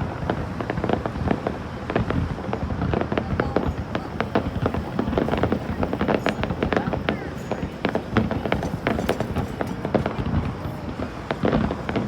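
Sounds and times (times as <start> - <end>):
fireworks cracks and pops: 0.0 - 12.0.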